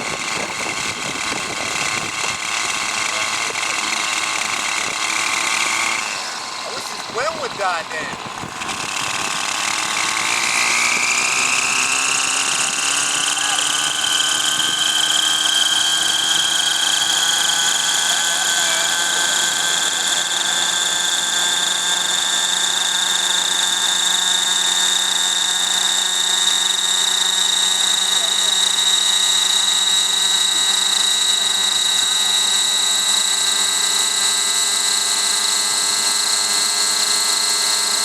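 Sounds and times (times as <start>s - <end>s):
model helicopter engine whine: 0.0s - 38.0s.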